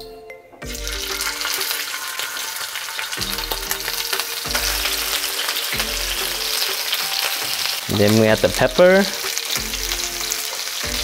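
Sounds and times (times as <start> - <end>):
chicken sizzling in frying pan: 0.7 - 11.0.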